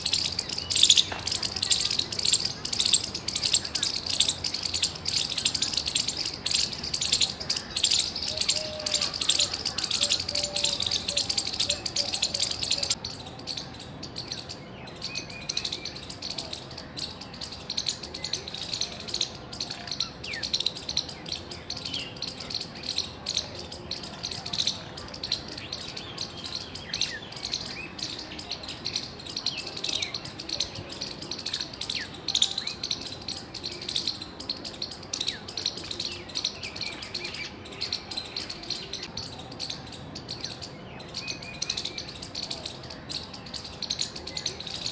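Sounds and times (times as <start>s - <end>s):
squirrel chirping: 0.0s - 14.4s, 15.1s - 44.9s.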